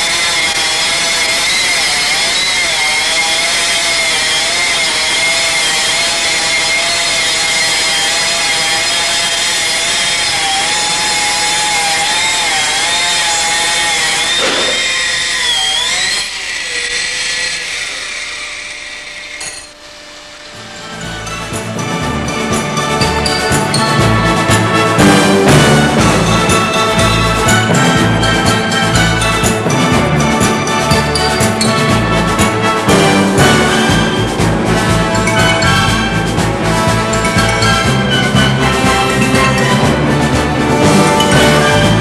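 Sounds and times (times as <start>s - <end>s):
stone saw high whine: 0.0s - 42.0s.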